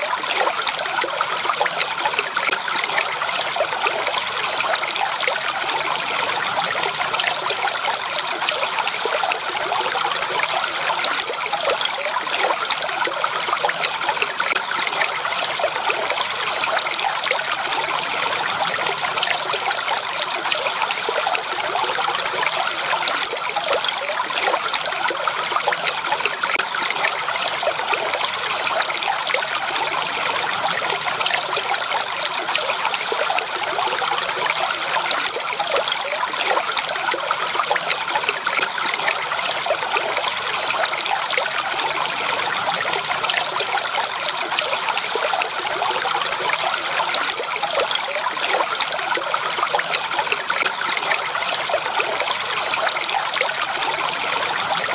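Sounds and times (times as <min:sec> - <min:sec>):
stream babbling and trickling: 0:00.0 - 0:54.9.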